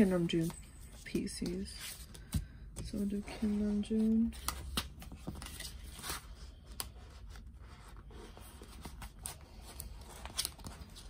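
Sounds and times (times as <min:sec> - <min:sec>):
cards rustling against plastic sleeves: 0:00.0 - 0:11.0.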